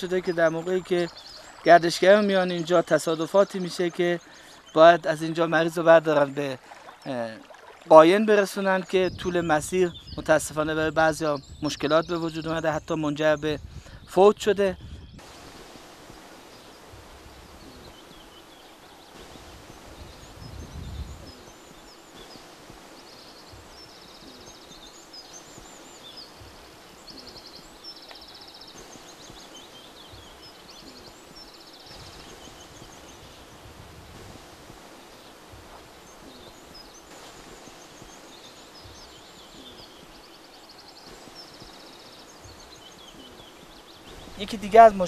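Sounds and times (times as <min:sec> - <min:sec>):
birds chirping and trilling: 0:00.0 - 0:45.0
faint background hiss: 0:00.0 - 0:45.0.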